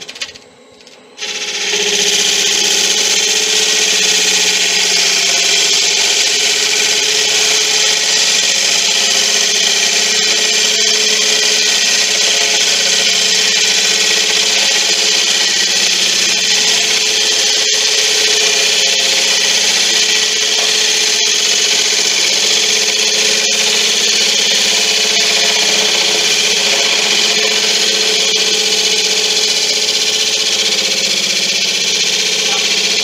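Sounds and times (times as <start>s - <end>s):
lathe motor hum: 0.0s - 33.0s
gouge scraping spinning wood: 1.2s - 33.0s.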